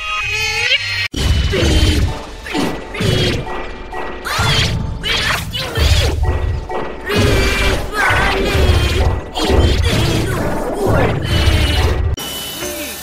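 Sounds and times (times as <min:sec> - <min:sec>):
distorted bass-boosted cartoon music: 0:01.1 - 0:12.2.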